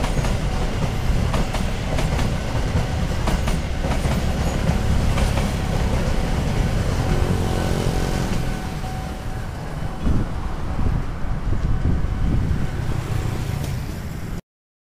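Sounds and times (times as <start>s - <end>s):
road traffic: 0.0s - 14.4s
wind buffeting microphone: 0.0s - 14.4s.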